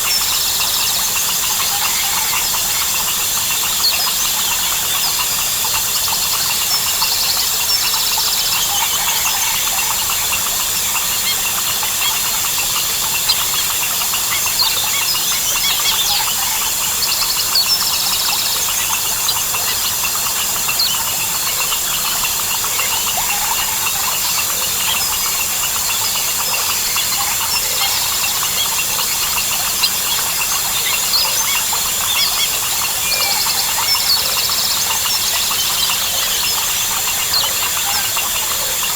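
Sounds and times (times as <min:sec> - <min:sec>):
birds chirping and calling: 0:00.0 - 0:38.9
frogs: 0:00.0 - 0:38.9
insects droning: 0:00.0 - 0:38.9.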